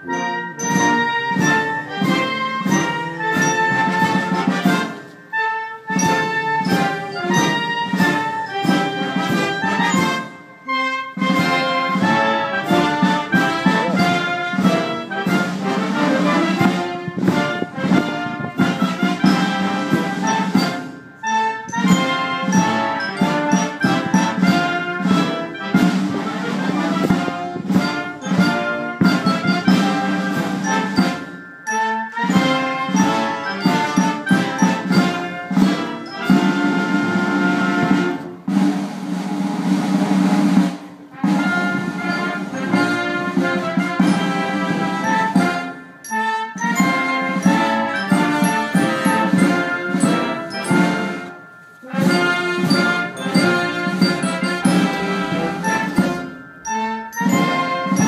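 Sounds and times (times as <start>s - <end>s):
orchestral music with brass: 0.0s - 58.0s.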